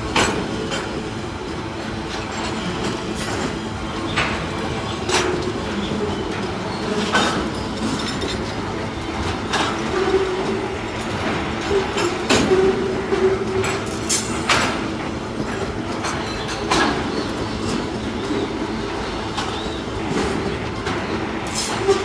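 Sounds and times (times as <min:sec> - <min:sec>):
freight train wheels rumbling: 0:00.0 - 0:22.0
wheels clacking over rail joints: 0:00.0 - 0:22.0.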